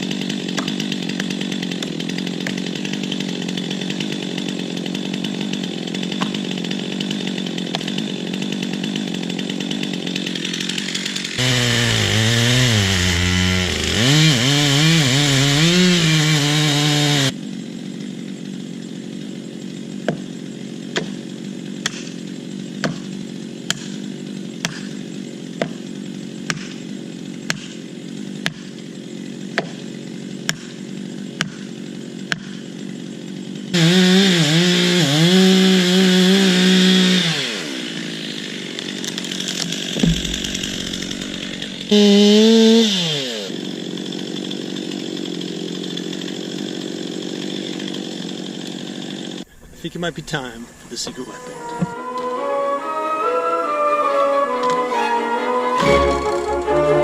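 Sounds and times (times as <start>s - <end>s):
chainsaw cutting wood: 0.0s - 53.0s, 53.7s - 57.0s.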